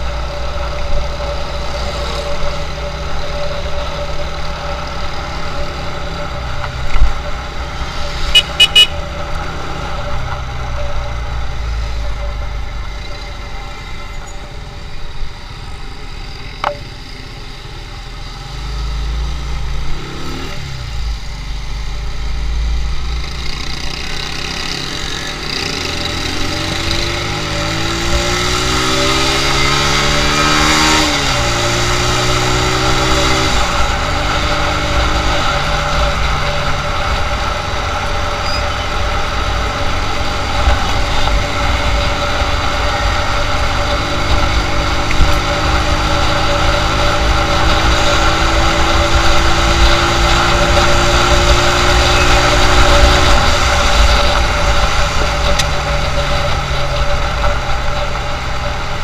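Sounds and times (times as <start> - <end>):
motorcycle engine accelerating: 0.0 - 59.0
wind and road noise: 0.0 - 59.0.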